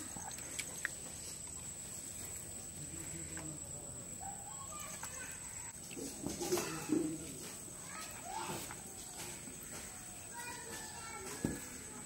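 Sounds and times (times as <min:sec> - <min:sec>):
faint distant voices: 0:00.0 - 0:12.0
high-pitched insect whine: 0:00.0 - 0:12.0.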